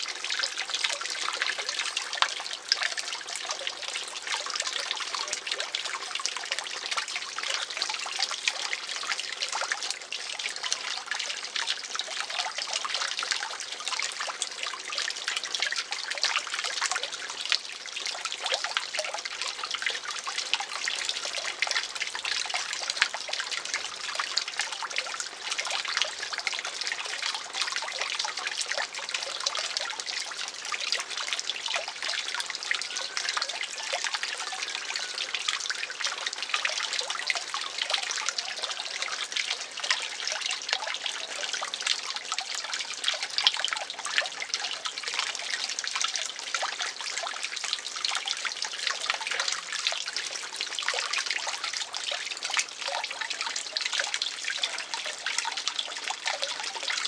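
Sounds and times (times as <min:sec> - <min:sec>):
pond water trickling and splashing: 0:00.0 - 0:57.0.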